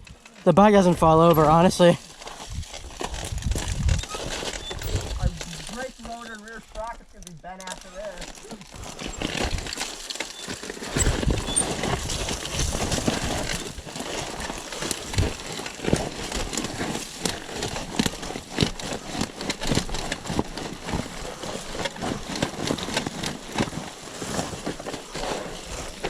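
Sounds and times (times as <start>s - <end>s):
dirt bike clattering over rocks: 2.5s - 26.0s.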